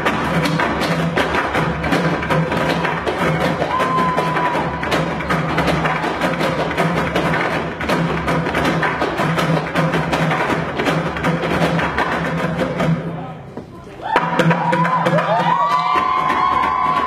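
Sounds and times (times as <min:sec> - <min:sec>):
percussion ensemble drumming: 0:00.0 - 0:17.0.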